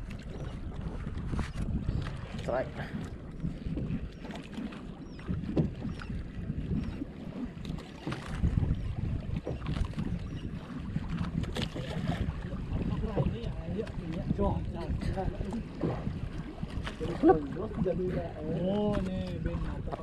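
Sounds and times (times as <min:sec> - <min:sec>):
water lapping around boat: 0:00.0 - 0:20.0
wind buffeting microphone: 0:00.0 - 0:20.0.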